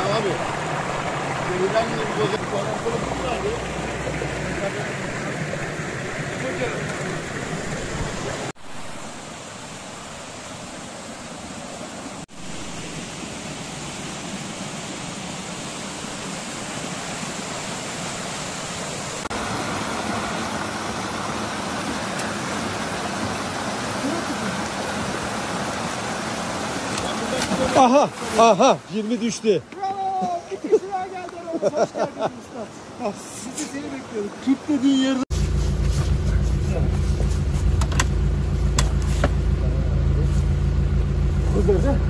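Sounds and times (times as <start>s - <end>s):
stream and small waterfall rushing: 0.0s - 42.0s.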